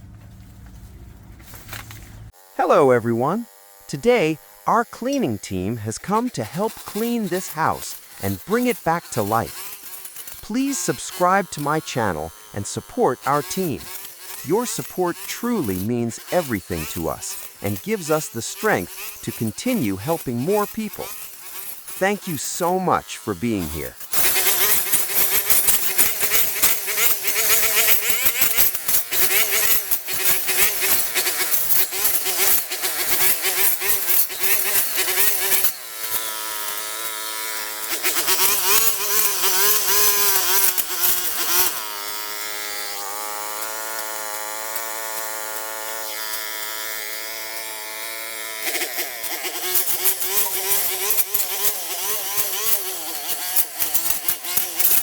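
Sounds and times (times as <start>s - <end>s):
small engine buzzing whine: 0.0s - 55.0s.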